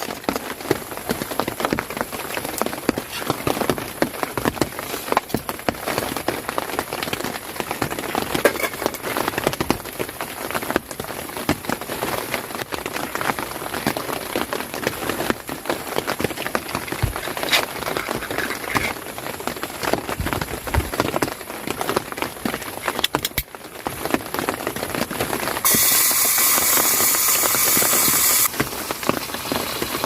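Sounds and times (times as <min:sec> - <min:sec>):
rain on a tent: 0:00.0 - 0:30.0.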